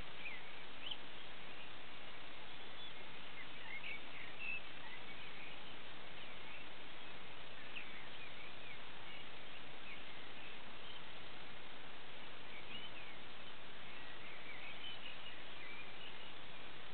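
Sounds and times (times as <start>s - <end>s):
songbirds twittering: 0.0s - 16.9s
steady hiss: 0.0s - 16.9s.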